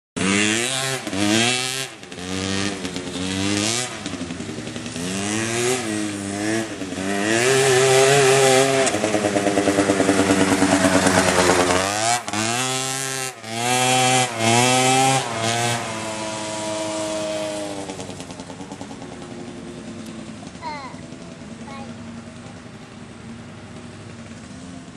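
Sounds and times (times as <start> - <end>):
small two-stroke engine revving: 0.2 - 24.9.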